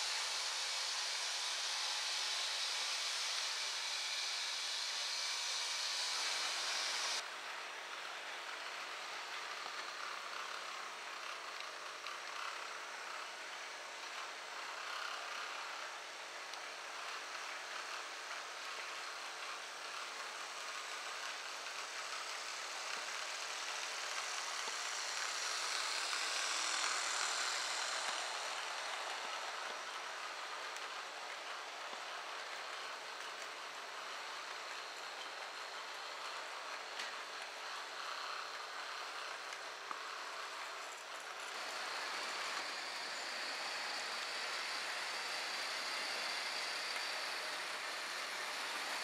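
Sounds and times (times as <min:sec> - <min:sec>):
faint motor hum: 0:00.0 - 0:49.0
model train running on track: 0:00.0 - 0:49.0.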